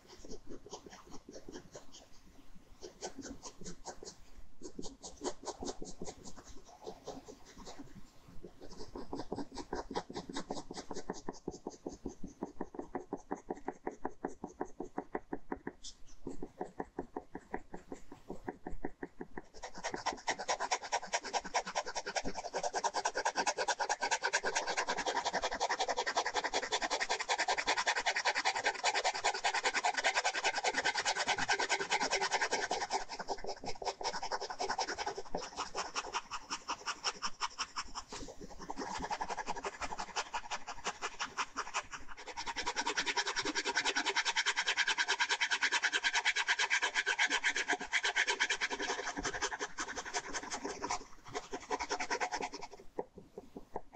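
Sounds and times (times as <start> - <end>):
pen scratching on paper: 0.0 - 53.9.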